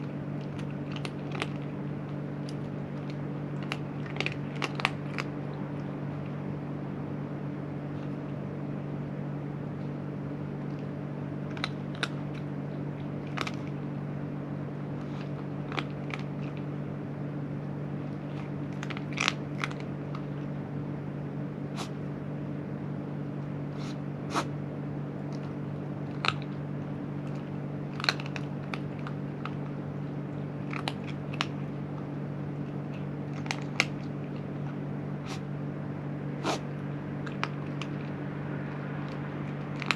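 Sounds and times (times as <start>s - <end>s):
cat crunching dry food: 0.0s - 6.8s, 7.8s - 9.0s, 9.8s - 14.1s, 14.8s - 20.7s, 25.2s - 35.6s, 36.4s - 39.9s
steady low hum: 0.0s - 39.9s.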